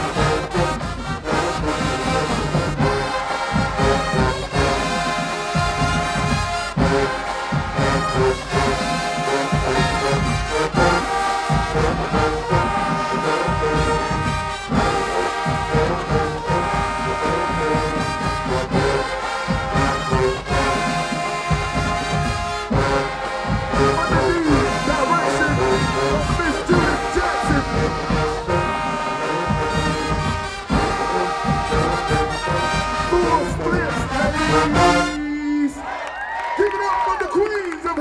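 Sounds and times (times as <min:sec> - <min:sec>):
brass chords: 0:00.0 - 0:36.0
pounding drums: 0:00.0 - 0:36.0.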